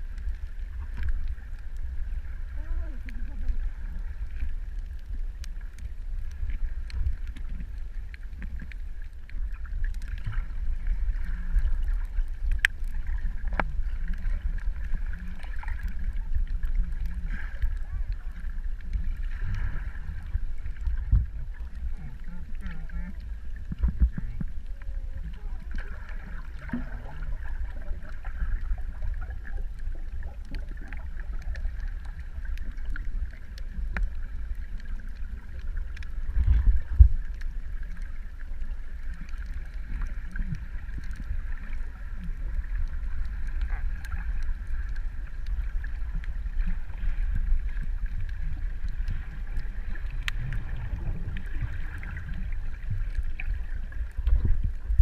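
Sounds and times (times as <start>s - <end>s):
constant hum: 0.0s - 55.0s
deep underwater rumble: 0.0s - 55.0s
faint underwater clicks: 0.0s - 55.0s.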